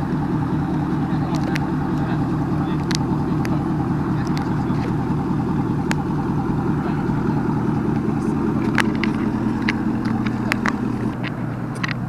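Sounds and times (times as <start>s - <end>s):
truck road and engine rumble: 0.0s - 12.0s.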